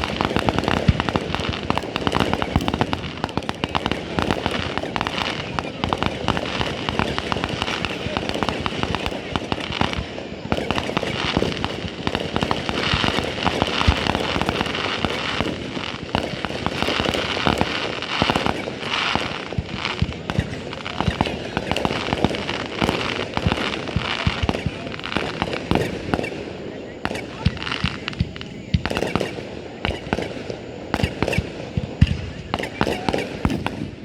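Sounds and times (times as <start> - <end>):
fireworks crackling and popping: 0.0 - 34.0
loud fireworks bangs: 0.0 - 34.0.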